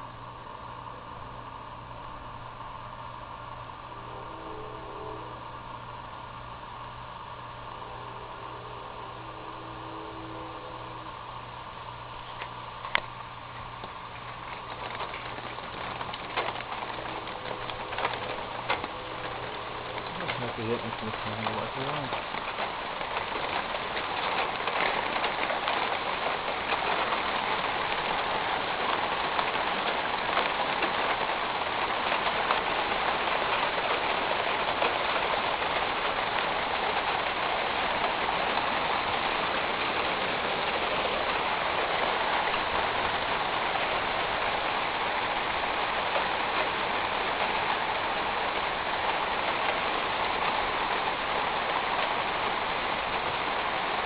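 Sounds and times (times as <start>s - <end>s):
rain on a metal roof: 4.8s - 54.0s.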